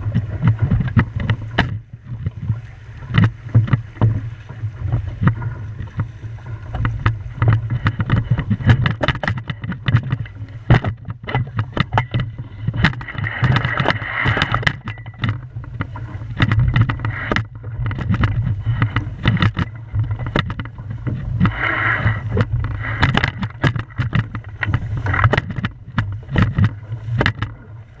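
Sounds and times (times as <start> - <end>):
knocks and taps from boat: 0.0 - 28.0
water slapping against hull: 0.0 - 28.0
wind rumble on microphone: 0.0 - 28.0.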